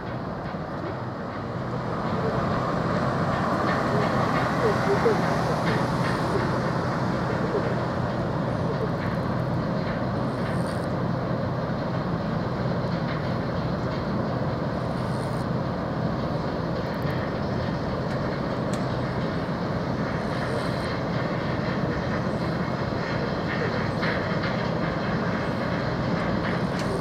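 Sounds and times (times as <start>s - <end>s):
constant rushing noise: 0.0s - 27.0s
ship engine low drone: 0.0s - 27.0s.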